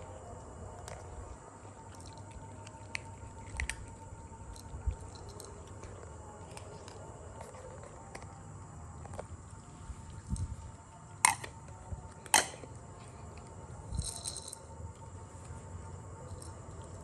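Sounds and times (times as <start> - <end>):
faint steady hum: 0.0 - 17.0
kittens chewing: 0.0 - 17.0.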